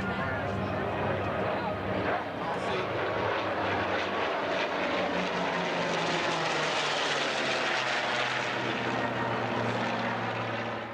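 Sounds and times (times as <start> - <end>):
aircraft engine drone: 0.0 - 10.9.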